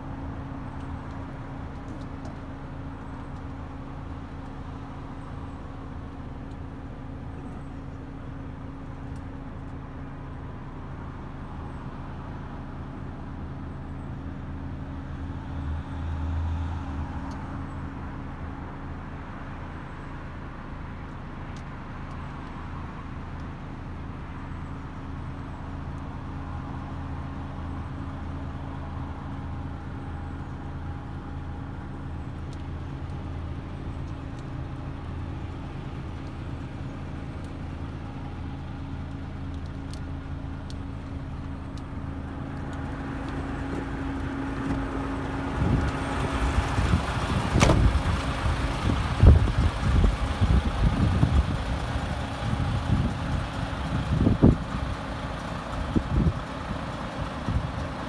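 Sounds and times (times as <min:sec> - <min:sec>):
diesel engine idling: 0:00.0 - 0:16.5, 0:17.4 - 0:58.0.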